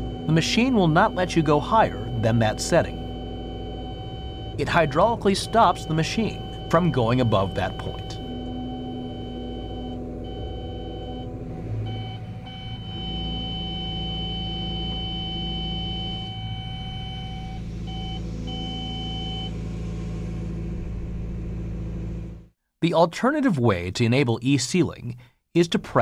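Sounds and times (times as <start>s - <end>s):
steady high warning tone: 0.0s - 22.4s
diesel engine running: 0.0s - 22.5s
hydraulics working: 0.0s - 22.5s.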